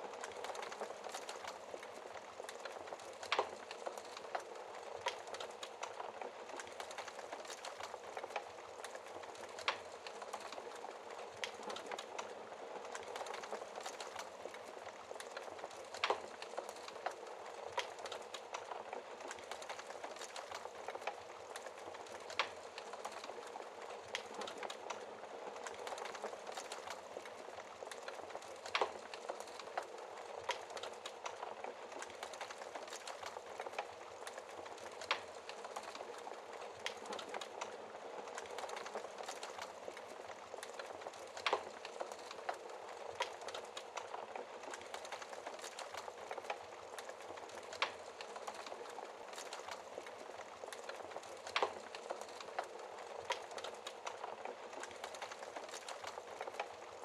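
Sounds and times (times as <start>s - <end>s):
wood fire hissing and crackling: 0.0s - 57.0s.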